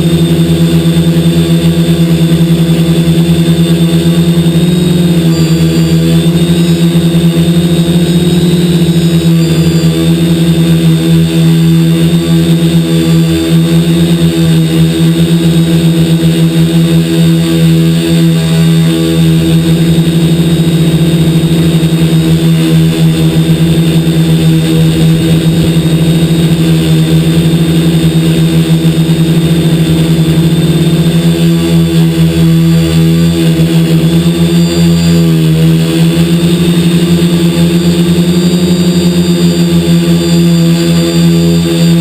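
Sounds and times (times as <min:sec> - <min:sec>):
drone motors buzzing: 0:00.0 - 0:42.0.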